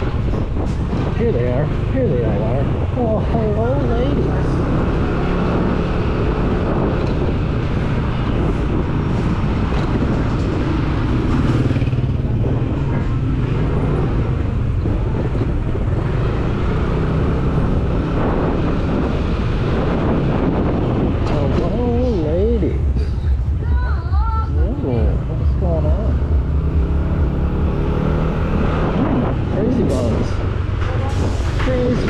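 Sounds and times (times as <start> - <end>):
surrounding traffic: 0.0 - 32.0.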